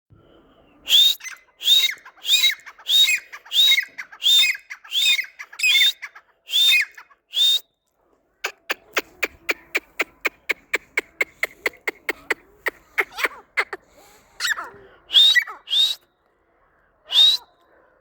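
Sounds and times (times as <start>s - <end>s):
bird harsh calls: 0.6s - 7.4s, 8.4s - 18.0s.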